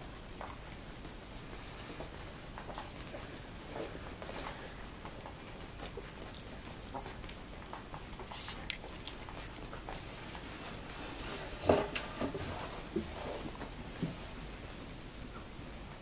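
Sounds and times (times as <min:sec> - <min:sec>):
puppies rustling on towels: 0:00.0 - 0:16.0.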